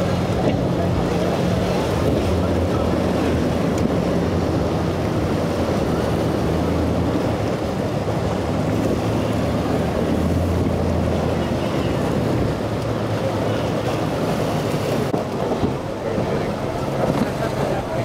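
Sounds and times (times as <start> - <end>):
outboard motors droning: 0.0 - 18.0
waves splashing: 0.0 - 18.0.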